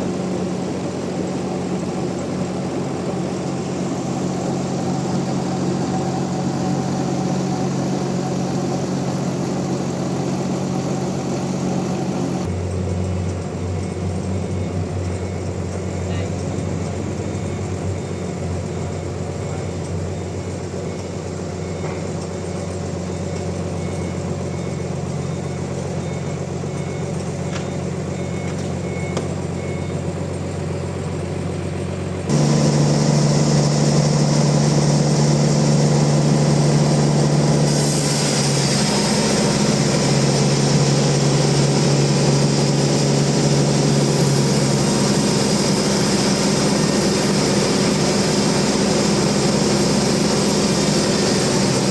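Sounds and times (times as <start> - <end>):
bandsaw mill engine hum: 0.0 - 51.9.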